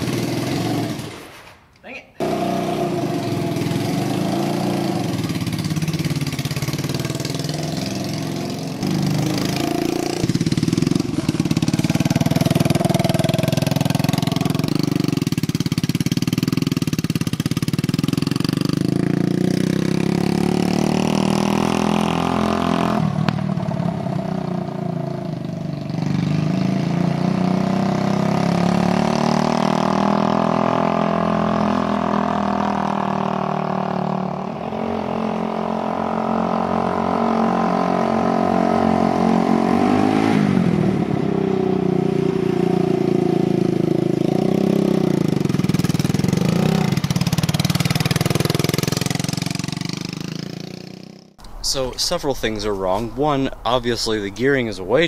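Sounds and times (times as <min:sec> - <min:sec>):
kart engine revving: 0:00.0 - 0:01.6, 0:02.2 - 0:51.4.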